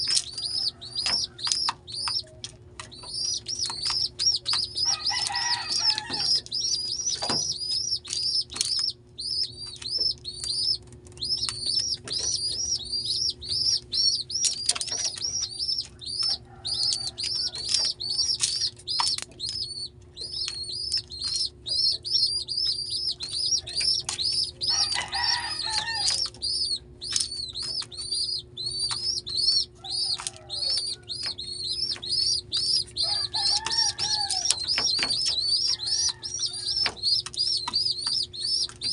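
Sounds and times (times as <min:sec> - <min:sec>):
pigeon squabs peeping: 0:00.0 - 0:38.9
wings fluttering: 0:00.0 - 0:38.9.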